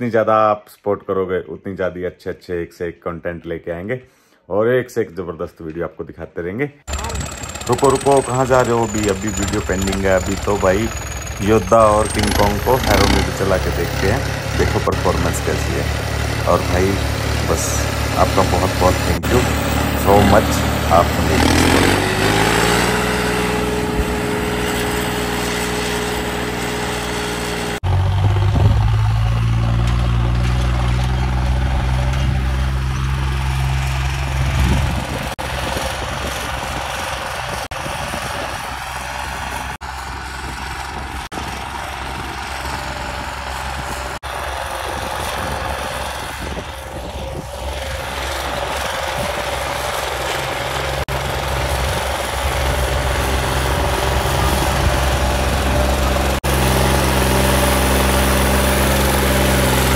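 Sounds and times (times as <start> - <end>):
diesel tractor engines running: 6.9 - 59.9.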